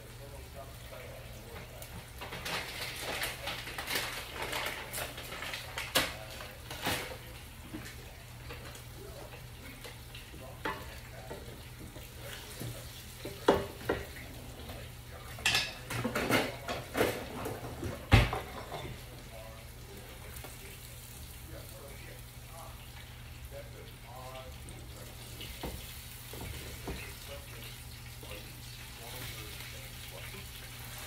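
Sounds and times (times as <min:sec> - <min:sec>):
frying oil sizzling: 0:00.0 - 0:31.0.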